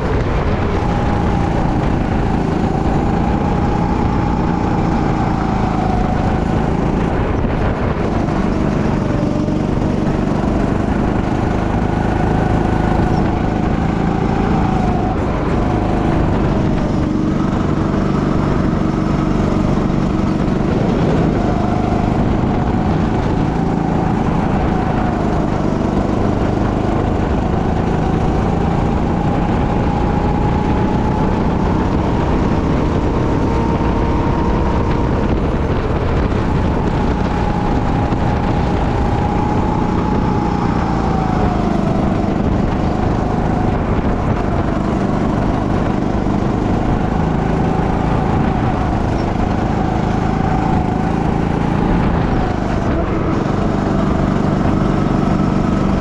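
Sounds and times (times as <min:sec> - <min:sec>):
go-kart engine running hard: 0:00.0 - 0:56.0
steady rush of noise: 0:00.0 - 0:56.0.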